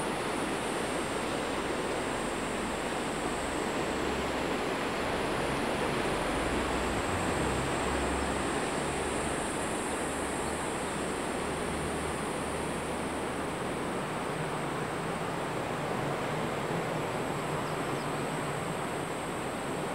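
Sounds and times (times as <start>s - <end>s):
surf washing over rocks: 0.0s - 19.9s
wind: 0.0s - 19.9s.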